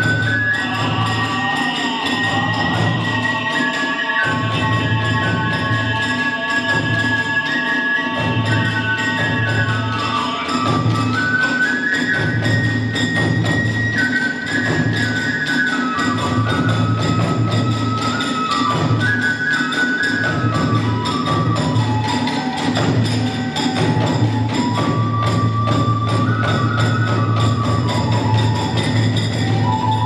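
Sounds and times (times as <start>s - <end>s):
bamboo flute melody: 0.0s - 30.0s
hand cymbals clashing: 0.0s - 30.0s.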